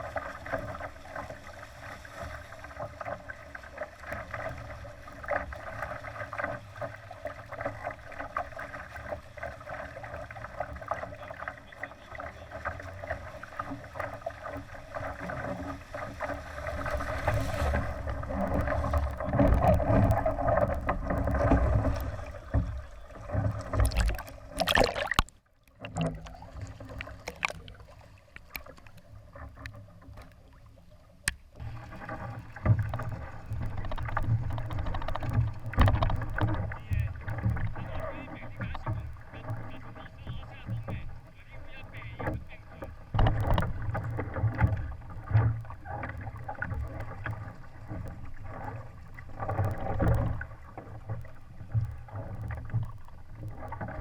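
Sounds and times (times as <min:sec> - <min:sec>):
water splashing along a hull: 0:00.0 - 0:54.0
wind: 0:00.0 - 0:54.0.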